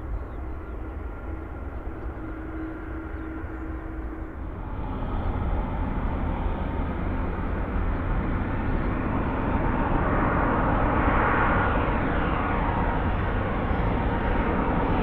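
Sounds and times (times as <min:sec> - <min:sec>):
jet engine rush: 0:00.0 - 0:15.0.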